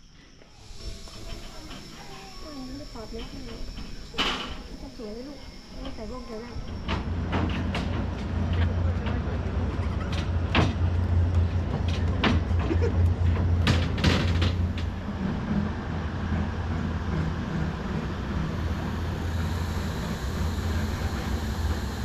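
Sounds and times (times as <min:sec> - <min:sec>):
diesel train engine rumbling: 0:00.0 - 0:22.0.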